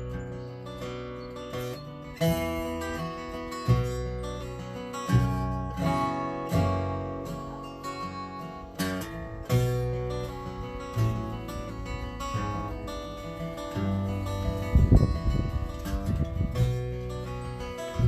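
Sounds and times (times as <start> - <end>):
acoustic guitar flatpicking: 0.0 - 18.0.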